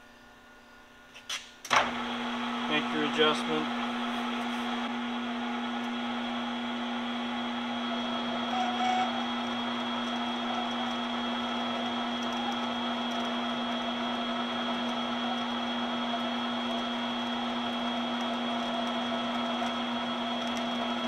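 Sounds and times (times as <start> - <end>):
metal lathe humming with whine: 1.7 - 21.0.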